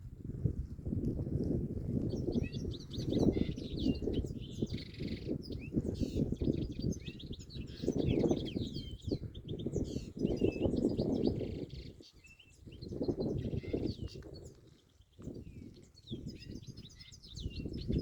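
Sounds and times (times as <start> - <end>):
birds chirping: 2.0 - 18.0.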